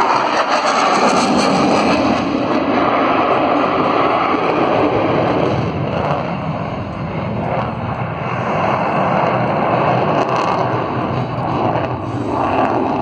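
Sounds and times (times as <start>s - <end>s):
jet engines in flight: 0.0s - 13.0s.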